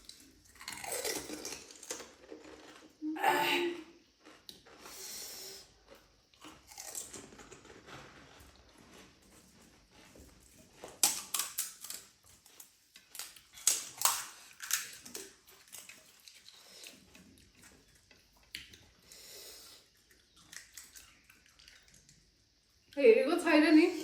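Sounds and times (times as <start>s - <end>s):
crisp shells crunching while chewed: 0.0s - 3.0s, 4.0s - 19.0s, 19.8s - 22.3s.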